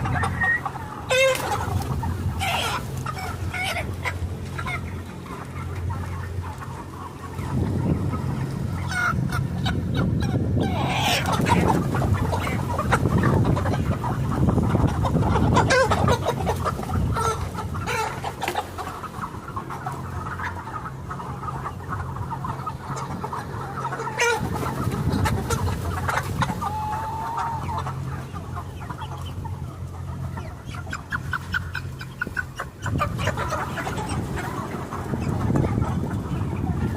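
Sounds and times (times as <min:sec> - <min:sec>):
chickens clucking: 0:00.0 - 0:36.9
steady low hum: 0:00.0 - 0:36.9.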